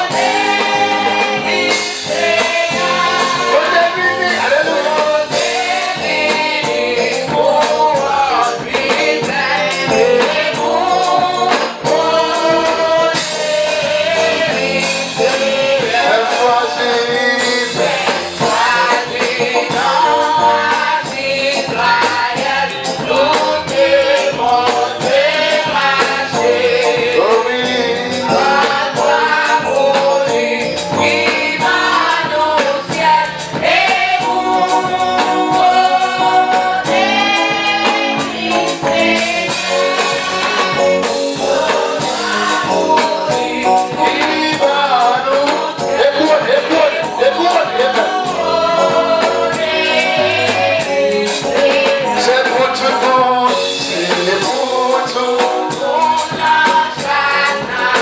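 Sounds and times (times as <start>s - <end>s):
congregation singing a hymn: 0.0s - 58.0s
tambourine beat: 0.0s - 58.0s.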